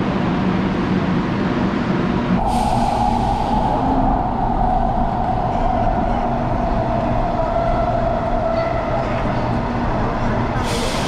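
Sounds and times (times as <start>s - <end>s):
metro train rumble: 0.0s - 11.0s.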